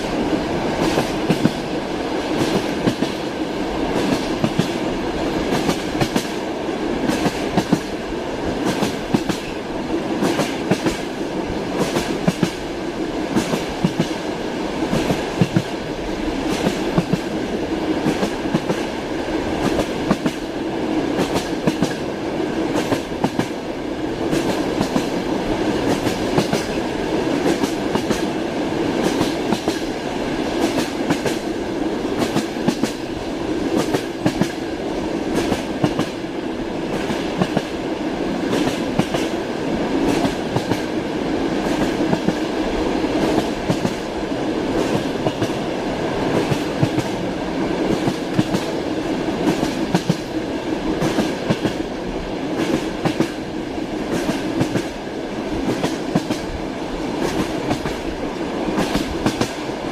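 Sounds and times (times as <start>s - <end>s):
train wheels clacking: 0.0s - 23.6s, 24.2s - 37.8s, 38.4s - 44.1s, 44.7s - 51.9s, 52.5s - 59.7s
railway carriage rumble: 0.0s - 59.9s.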